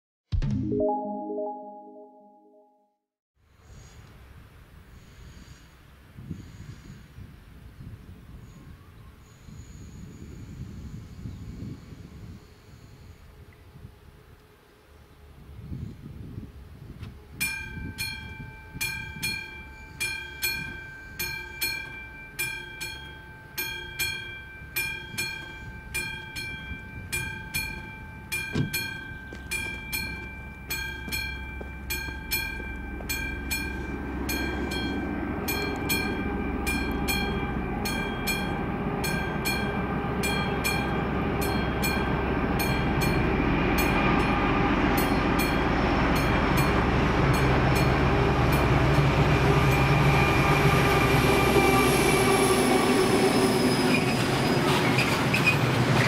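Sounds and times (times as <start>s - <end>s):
freight train rumble: 9.6s - 56.0s.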